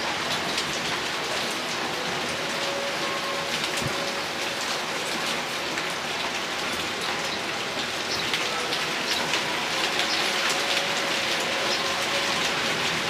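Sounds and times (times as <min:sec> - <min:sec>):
heavy rain and hail: 0:00.0 - 0:13.0.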